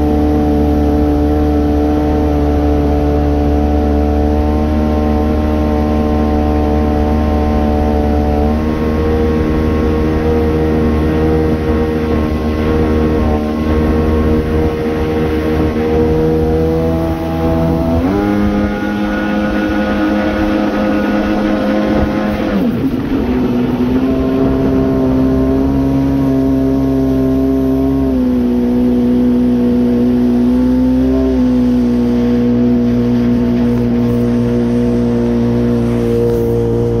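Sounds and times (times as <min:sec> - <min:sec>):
personal watercraft engine running: 0:00.0 - 0:37.0.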